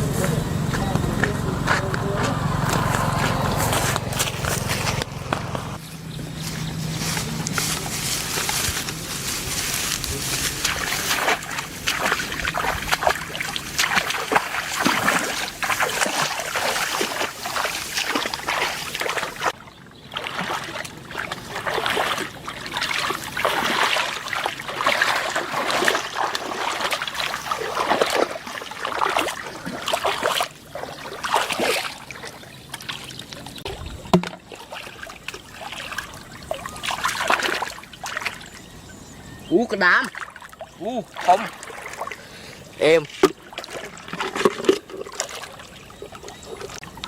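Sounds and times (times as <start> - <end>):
floodwater splashing: 0.0 - 5.8, 6.9 - 38.6, 39.8 - 47.0.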